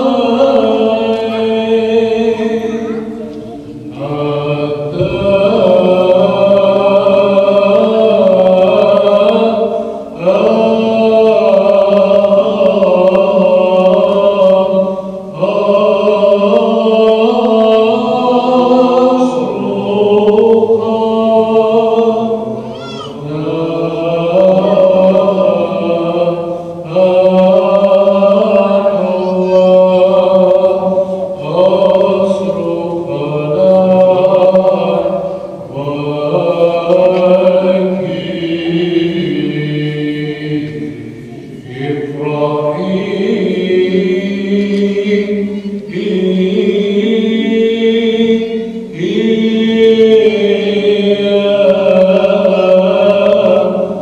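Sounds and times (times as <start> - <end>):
men chanting: 0.0 - 54.0.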